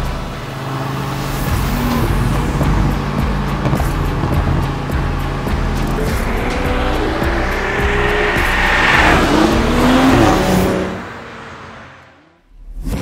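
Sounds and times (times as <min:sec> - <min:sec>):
background music: 0:00.0 - 0:11.2
car engine accelerating hard: 0:00.0 - 0:13.0.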